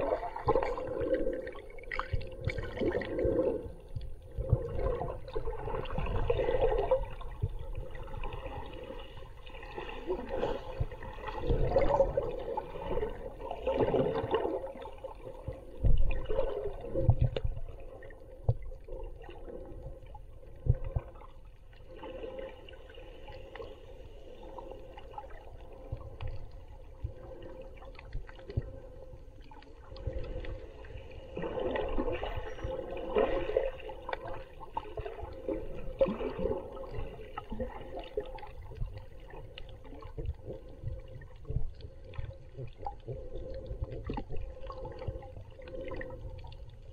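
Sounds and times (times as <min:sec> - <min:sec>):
water sloshing and gurgling underwater: 0:00.0 - 0:46.9.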